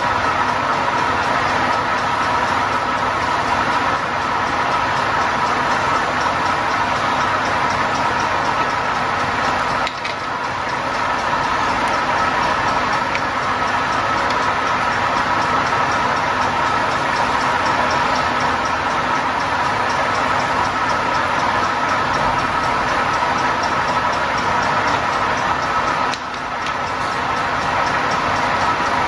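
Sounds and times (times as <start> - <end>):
grinding machine humming: 0.0 - 29.0.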